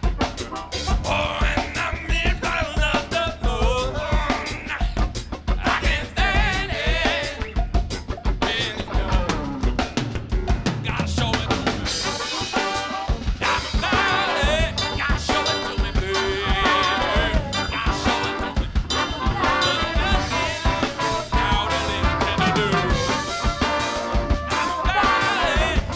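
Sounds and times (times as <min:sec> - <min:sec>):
drum kit beat: 0:00.0 - 0:25.9
funk band playing: 0:00.0 - 0:25.9.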